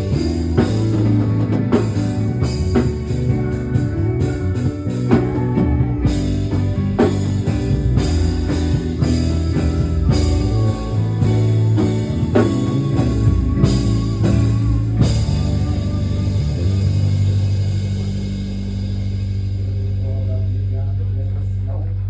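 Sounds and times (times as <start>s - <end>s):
drum kit: 0.0s - 22.0s
guitar: 0.0s - 22.0s
low bass notes: 0.0s - 22.0s.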